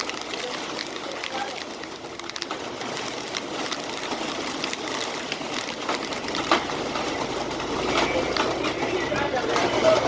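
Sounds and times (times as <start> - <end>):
raindrops ticking: 0.0 - 10.0.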